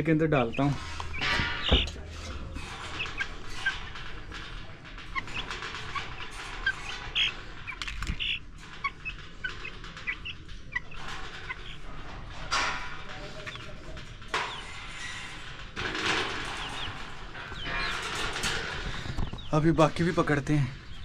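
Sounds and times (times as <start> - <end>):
chickens clucking and squawking: 0.0 - 21.0.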